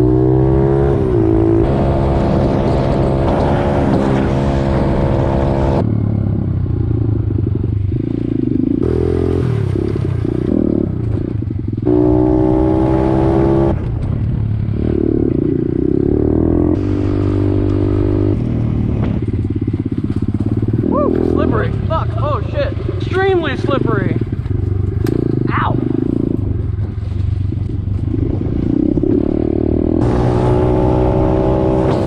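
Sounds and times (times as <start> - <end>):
pit bike engine running: 0.0 - 32.0.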